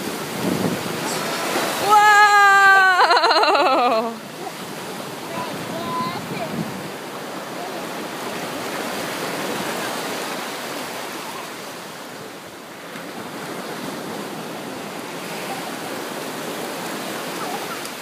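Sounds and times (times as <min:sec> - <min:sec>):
small waves breaking on beach: 0:00.0 - 0:18.0.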